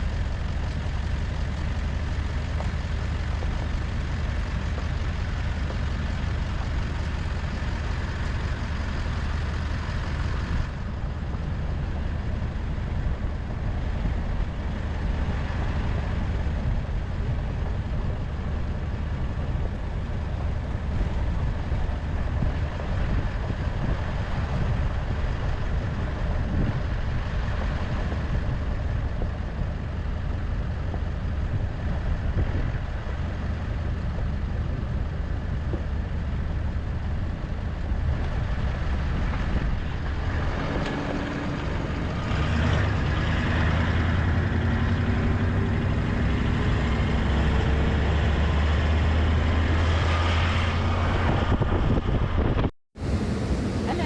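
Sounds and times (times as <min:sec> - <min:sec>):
vehicle engine driving: 0:00.0 - 0:54.0.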